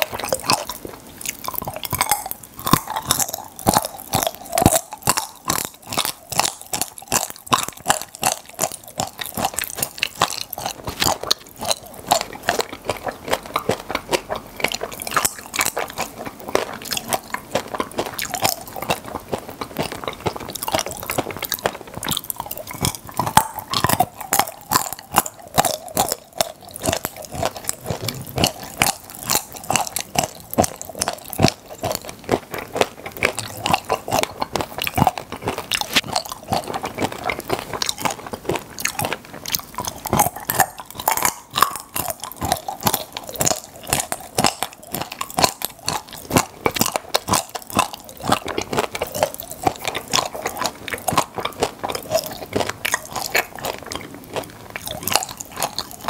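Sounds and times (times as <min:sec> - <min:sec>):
chewing: 0:00.0 - 0:56.0
popping candy crackling: 0:00.0 - 0:56.0.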